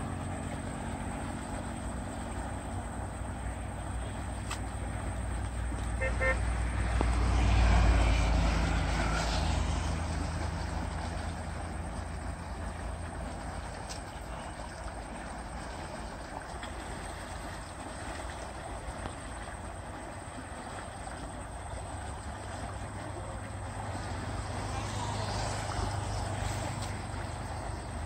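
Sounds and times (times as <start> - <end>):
motor vehicle passing: 0.0 - 13.9, 14.6 - 28.0
water rushing from culvert: 0.0 - 28.0.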